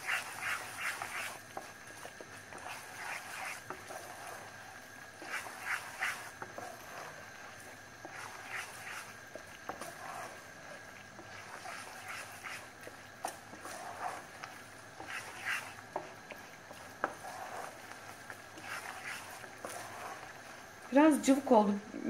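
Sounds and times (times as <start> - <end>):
wooden spatula scraping a pan: 0.0 - 21.5.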